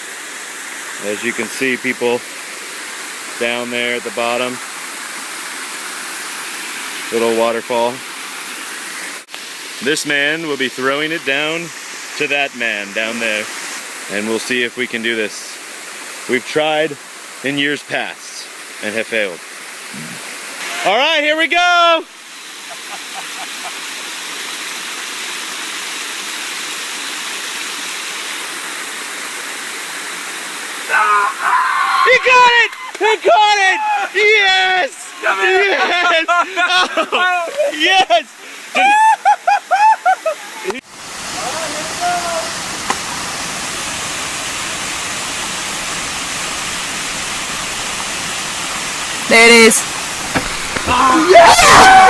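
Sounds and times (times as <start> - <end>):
water pouring over waterfall: 0.0 - 21.0, 22.2 - 32.8, 40.7 - 52.0.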